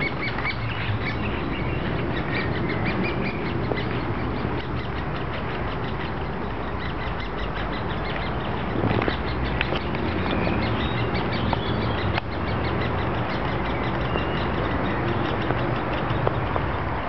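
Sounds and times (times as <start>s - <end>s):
woodpecker nestlings begging calls: 0.0s - 17.0s.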